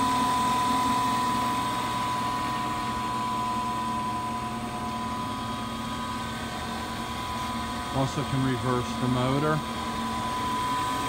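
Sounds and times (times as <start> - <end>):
milling machine motor humming: 0.0 - 11.0.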